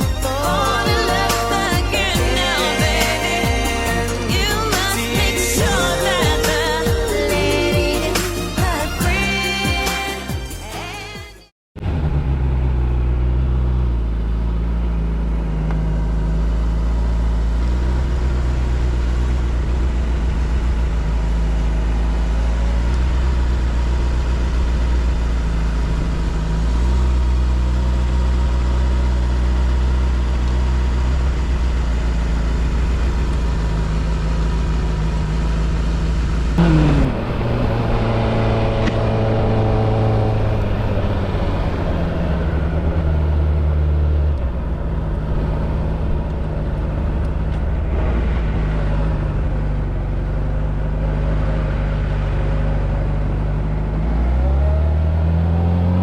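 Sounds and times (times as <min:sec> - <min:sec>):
motorcycle engine running: 0:00.0 - 0:10.8, 0:11.8 - 0:56.0.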